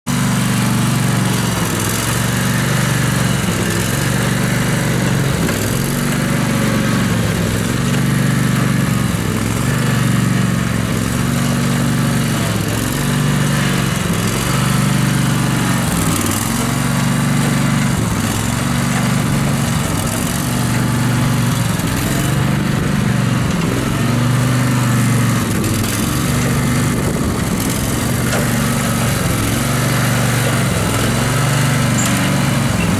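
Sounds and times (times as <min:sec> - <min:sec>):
lawn mower engine running: 0:00.0 - 0:32.9.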